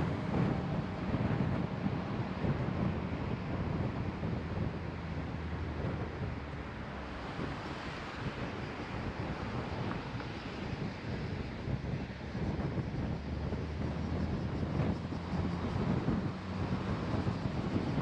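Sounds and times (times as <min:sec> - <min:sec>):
car tyre and wind noise: 0:00.0 - 0:18.0.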